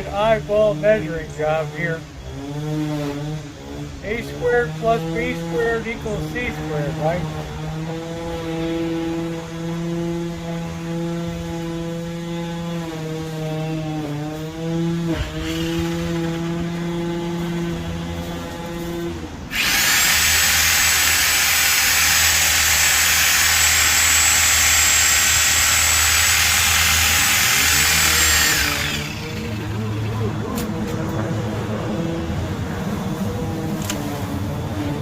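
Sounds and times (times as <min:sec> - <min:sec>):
saw cutting into tree trunk: 0:00.6 - 0:31.0
power saw motor running: 0:01.6 - 0:31.2.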